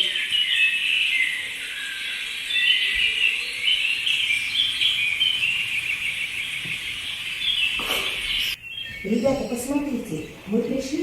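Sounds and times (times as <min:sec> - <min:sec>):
small birds chirping and trilling: 0:00.0 - 0:11.0.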